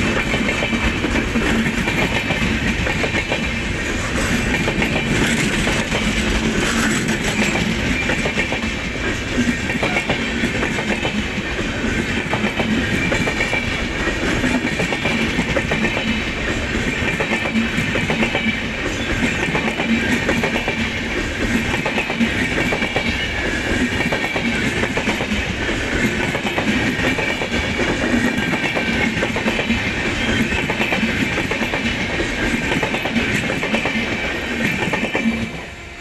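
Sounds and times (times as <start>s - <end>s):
train passing rumble: 0.0s - 36.0s
wheels clickety-clack on track: 0.0s - 36.0s.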